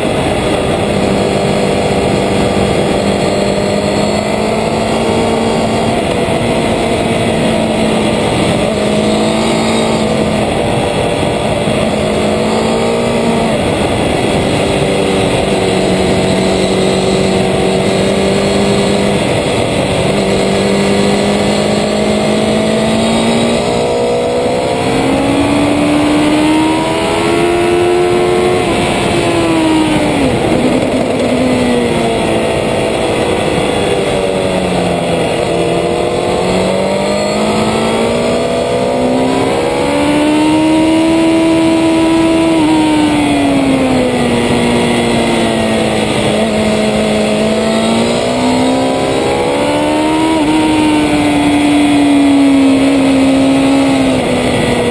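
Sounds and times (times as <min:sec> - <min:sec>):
racing motorcycle engine high revs: 0:00.0 - 0:54.9
wind rushing: 0:00.0 - 0:54.9.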